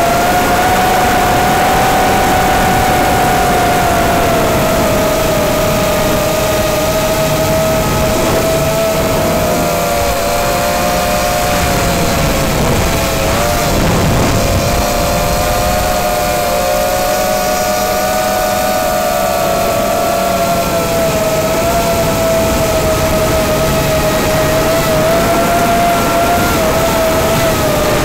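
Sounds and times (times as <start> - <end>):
drone propellers whining: 0.0 - 28.0
steady rushing hiss: 0.0 - 28.0.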